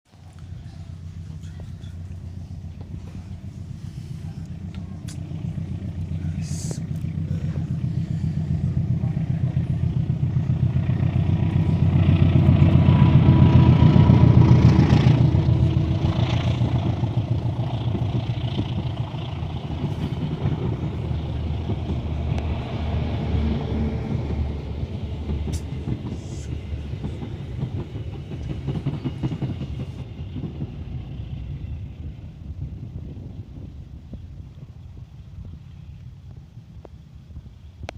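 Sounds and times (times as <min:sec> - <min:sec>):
diesel locomotive engine: 0:00.1 - 0:37.9
train wheels on rails: 0:00.1 - 0:37.9.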